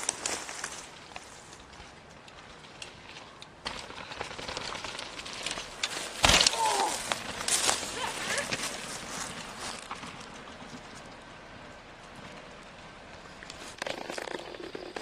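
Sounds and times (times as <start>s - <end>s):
bike tyres crunching over dirt: 0.0s - 15.0s.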